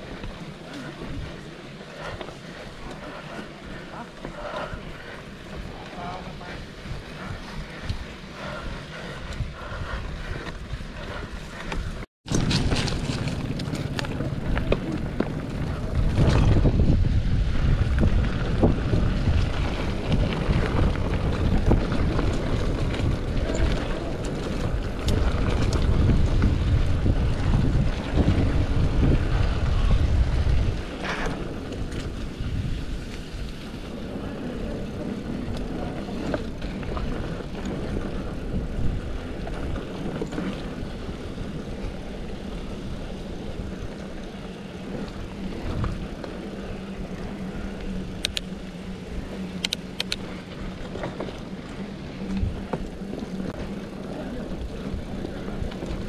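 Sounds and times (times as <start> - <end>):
bike rattling and clicking: 0.0 - 56.0
wind buffeting microphone: 0.0 - 56.0.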